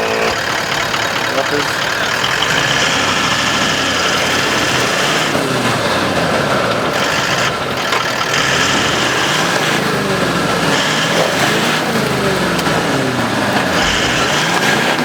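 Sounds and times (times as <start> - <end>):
engine revving under load: 0.0 - 15.0
steady noisy rumble: 0.0 - 15.0.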